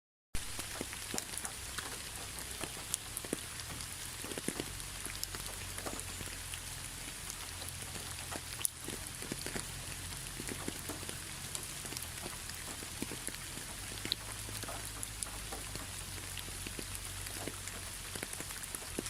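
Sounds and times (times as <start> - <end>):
raindrops ticking on a surface: 0.4 - 19.0
steady rain hiss: 0.4 - 19.0.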